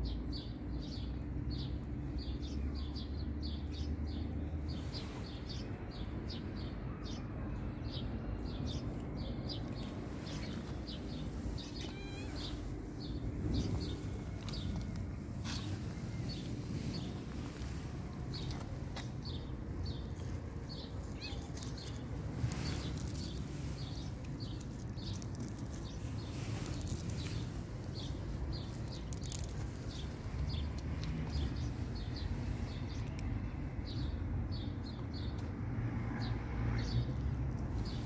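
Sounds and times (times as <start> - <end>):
steady low rumble: 0.0 - 34.8.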